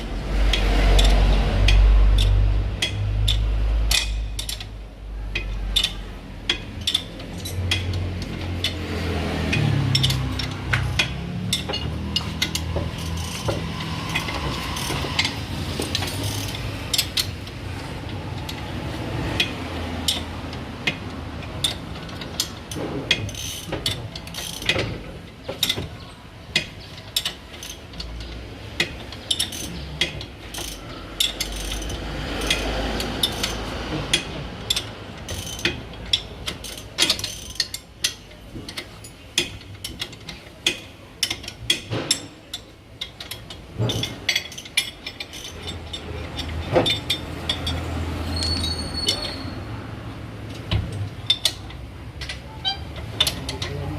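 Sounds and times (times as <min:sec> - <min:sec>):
ratchet wrench clicking: 0:00.2 - 0:24.9, 0:26.5 - 0:49.7, 0:50.5 - 0:53.8.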